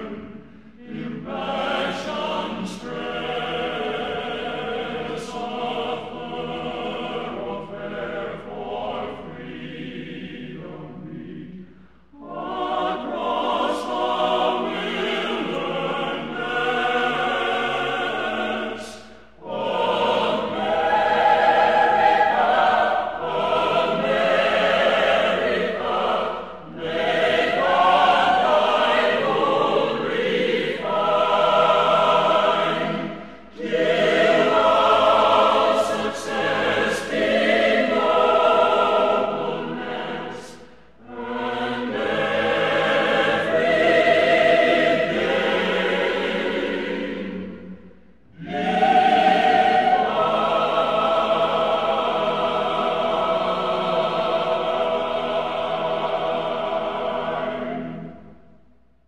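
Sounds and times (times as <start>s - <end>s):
choir singing: 0.0s - 58.6s.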